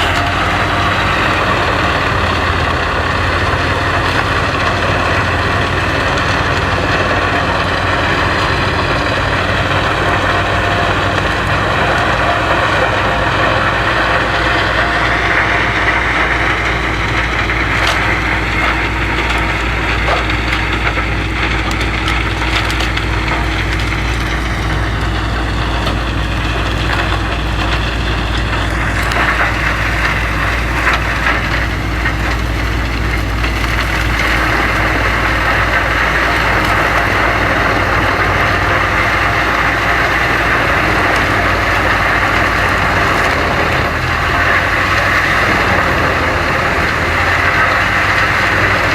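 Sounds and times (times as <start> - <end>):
wood chipper engine: 0.0 - 48.9
wood chipping crackle: 0.0 - 48.9.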